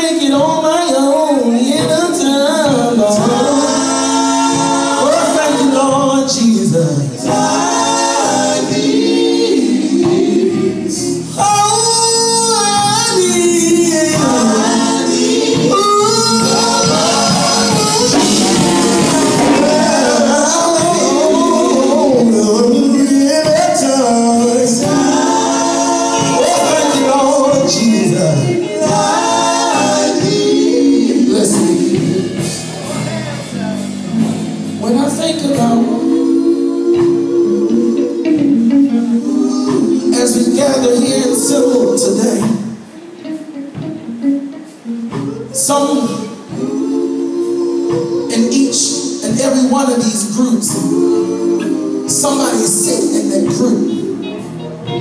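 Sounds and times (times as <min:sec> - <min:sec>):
men's vocal group singing: 0:00.0 - 0:43.0, 0:45.1 - 0:54.6
lead singer on microphone: 0:00.0 - 0:55.0.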